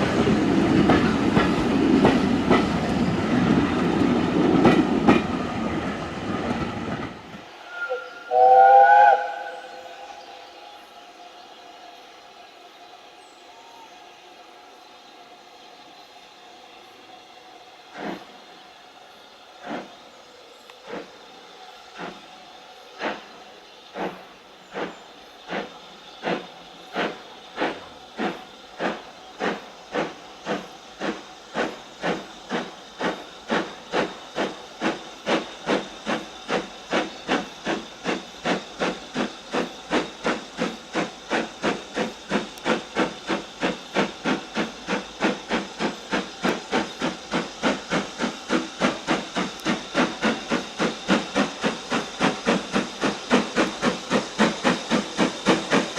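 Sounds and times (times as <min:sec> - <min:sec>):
steam locomotive chuffing: 0:00.0 - 0:10.9, 0:17.8 - 0:55.9.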